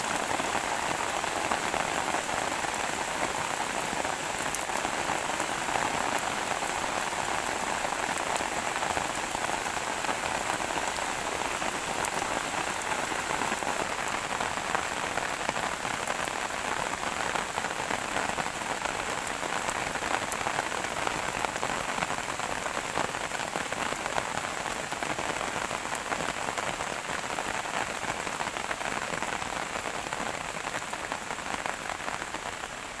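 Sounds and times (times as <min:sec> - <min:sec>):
steady rain patter: 0:00.0 - 0:33.0.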